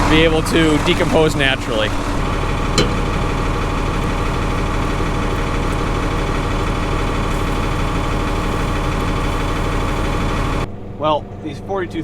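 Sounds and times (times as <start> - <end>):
tractor diesel engine idling: 0.0 - 11.8.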